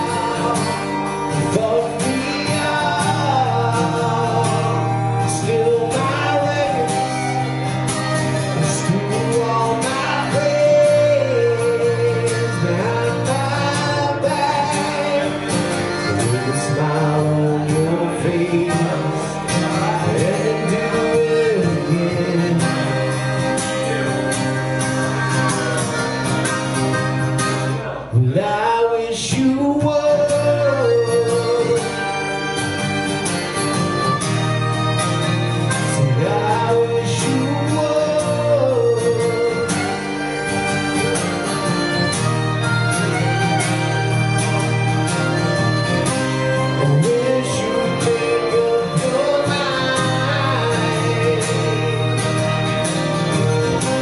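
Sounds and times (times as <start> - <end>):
harmonica melody: 0.0 - 28.0, 29.4 - 54.0
acoustic guitar: 0.0 - 54.0.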